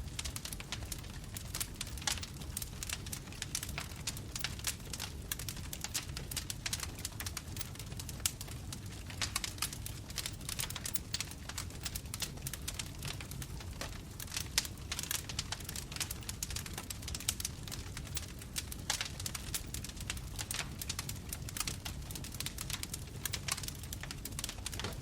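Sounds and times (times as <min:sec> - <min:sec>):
burning wood crackling and popping: 0:00.0 - 0:25.0
low rumble of flames: 0:00.0 - 0:25.0.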